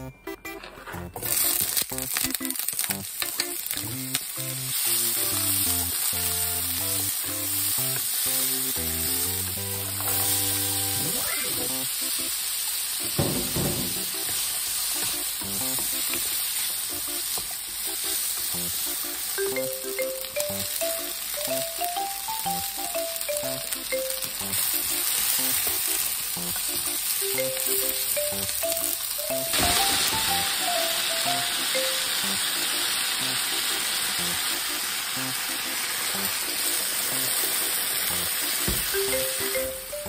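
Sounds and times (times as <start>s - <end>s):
vegetables sizzling in a frying pan: 1.2s - 40.0s.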